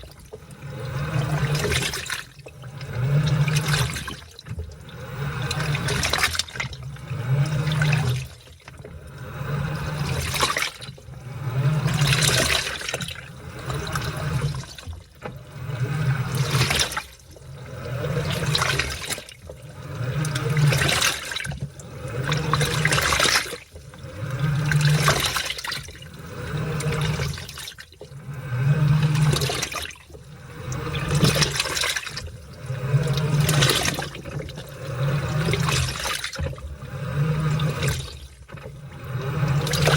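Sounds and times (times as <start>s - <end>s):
washing machine motor hum: 0.0s - 39.9s
water sloshing: 0.0s - 39.9s.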